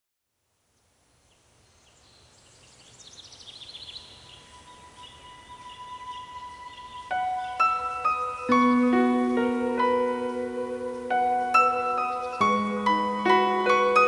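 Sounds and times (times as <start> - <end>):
soft outdoor ambience: 0.2 - 14.0.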